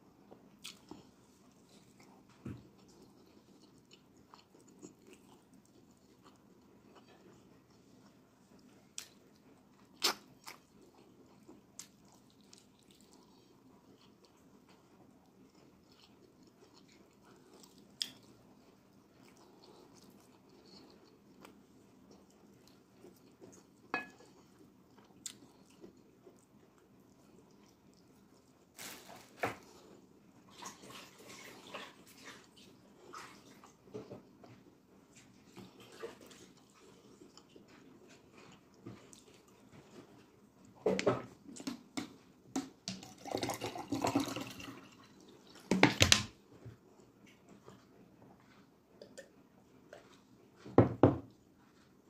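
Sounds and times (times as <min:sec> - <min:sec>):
wet eating by hand: 0:00.6 - 0:45.8.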